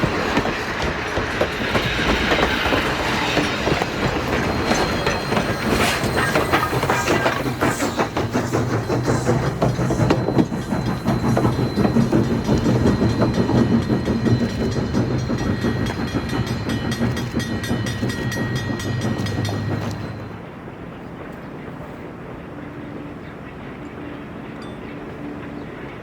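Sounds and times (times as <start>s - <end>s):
train wheels clicking over rail joints: 0.0s - 23.8s.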